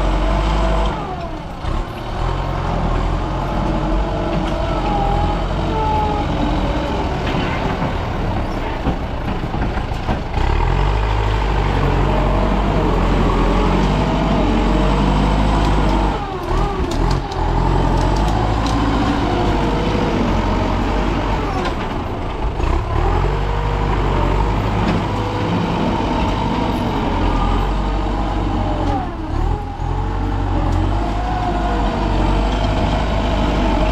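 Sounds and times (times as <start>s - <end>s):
excavator diesel engine working: 0.0s - 33.9s.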